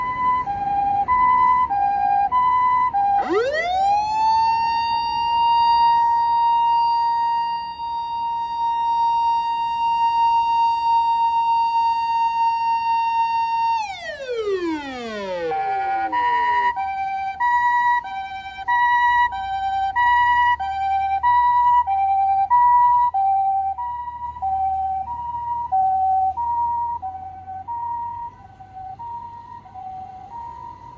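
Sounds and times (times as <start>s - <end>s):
ambulance two-tone siren: 0.0s - 30.9s
siren wail: 0.0s - 30.9s.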